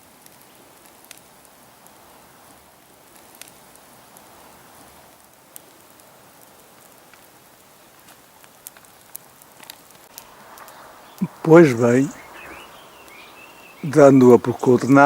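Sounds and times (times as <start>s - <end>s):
bonfire hissing: 0.0s - 15.0s
fire crackles and pops: 0.0s - 15.0s.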